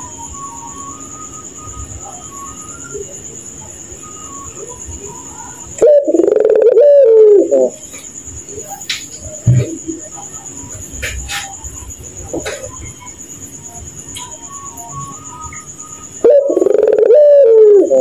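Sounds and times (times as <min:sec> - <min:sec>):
crickets chirping: 0:00.0 - 0:18.0
dove calling: 0:00.0 - 0:18.0.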